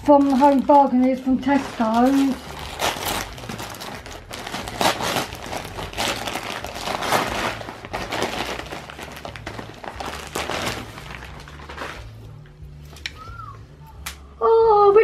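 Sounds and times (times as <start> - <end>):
wrapping paper crinkling: 0.0 - 13.3.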